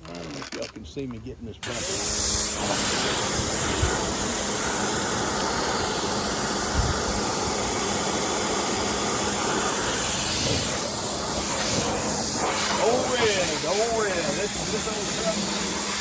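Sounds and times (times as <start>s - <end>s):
pressure washer spraying water: 1.6s - 16.0s.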